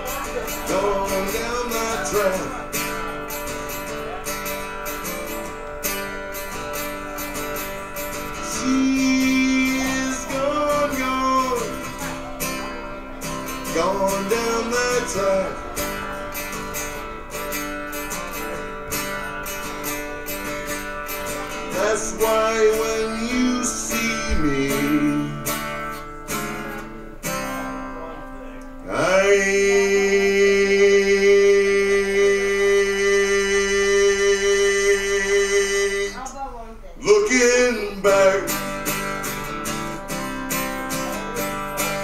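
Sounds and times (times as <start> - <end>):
acoustic guitar strumming: 0.0 - 42.0.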